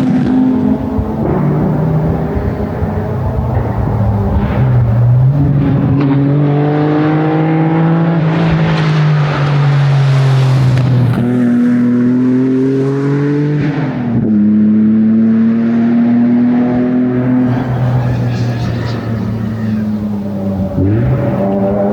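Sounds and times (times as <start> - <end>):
car engine revving under load: 0.0 - 21.9.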